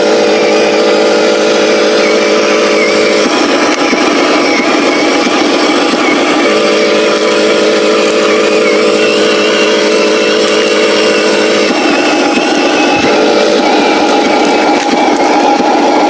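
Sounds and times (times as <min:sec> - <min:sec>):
toy truck drivetrain whine: 0:00.0 - 0:16.0.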